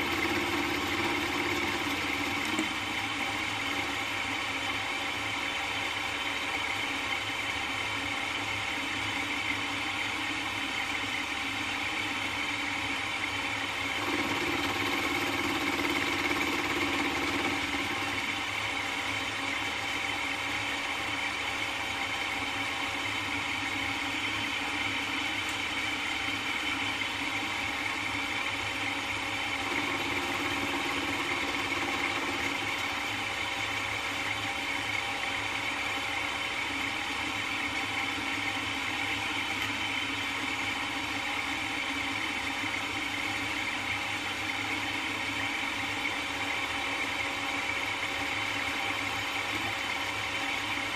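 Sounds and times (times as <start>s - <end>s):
milling machine running: 0.0s - 6.9s, 13.5s - 50.9s.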